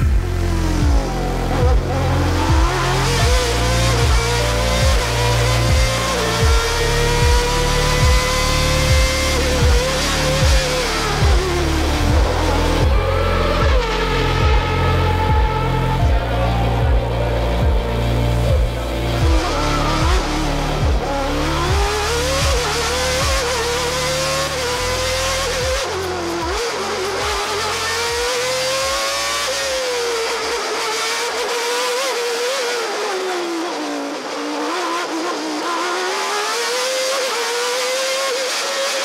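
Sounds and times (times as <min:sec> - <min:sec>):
pulsing bass beat music: 0:00.0 - 0:32.6
racing car engine at high revs: 0:00.0 - 0:39.0.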